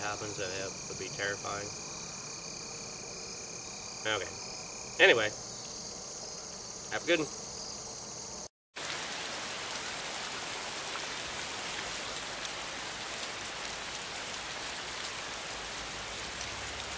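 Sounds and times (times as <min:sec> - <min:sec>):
steady rain hiss: 0:00.0 - 0:16.9.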